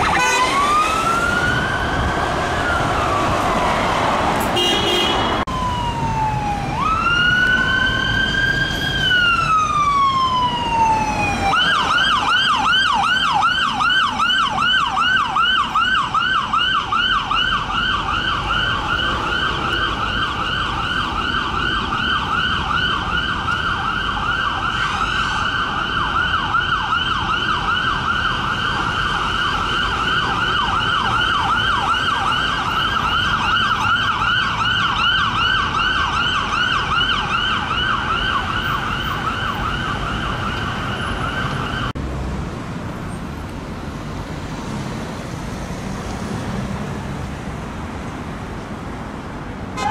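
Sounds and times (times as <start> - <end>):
police siren yelp: 0.0 - 4.0, 4.9 - 42.0
police siren wail: 0.0 - 42.0
road traffic noise: 0.0 - 49.9.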